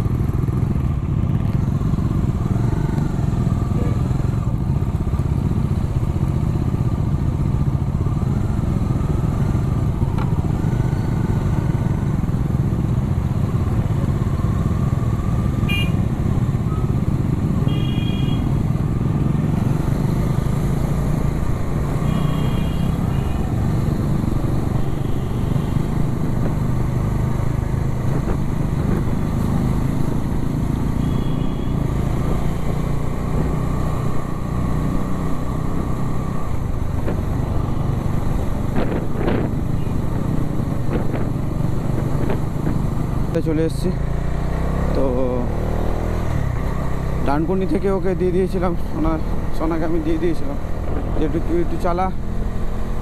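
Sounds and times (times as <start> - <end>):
motorcycle engine and road rumble: 0.0 - 53.0.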